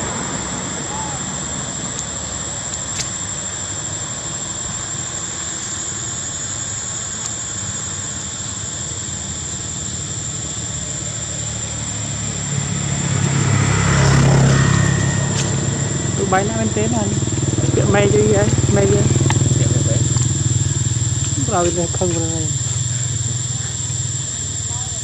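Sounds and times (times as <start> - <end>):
constant high whine: 0.0 - 25.0
low engine rumble: 0.0 - 25.0.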